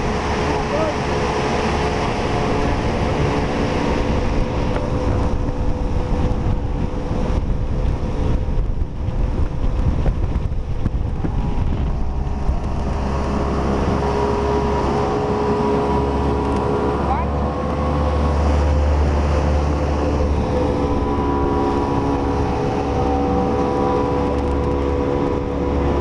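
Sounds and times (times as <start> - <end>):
jet ski engine whine: 0.0 - 26.0
wind noise on microphone: 0.0 - 26.0.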